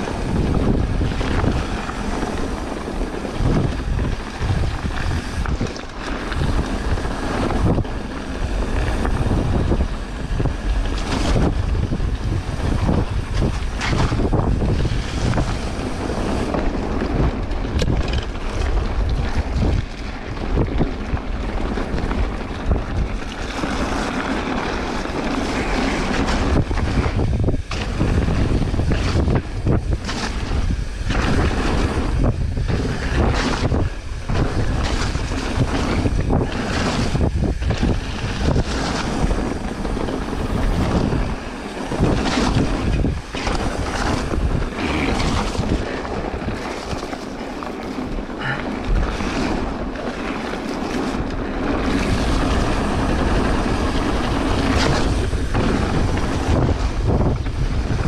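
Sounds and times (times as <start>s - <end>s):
bike knocks and rattles: 0.0s - 58.0s
bike tyre noise on trail: 0.0s - 58.0s
wind rushing over microphone: 0.0s - 58.0s.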